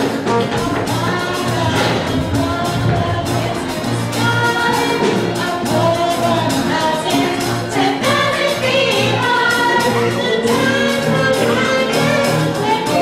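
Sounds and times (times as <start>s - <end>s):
ensemble of voices singing: 0.0s - 13.0s
live band with pulsing beat: 0.0s - 13.0s.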